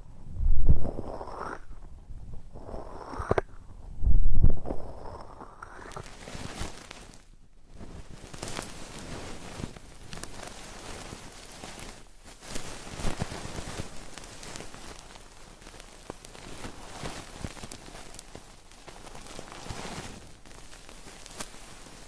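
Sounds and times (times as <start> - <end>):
crackling and scratching at microphone: 0.0 - 22.0.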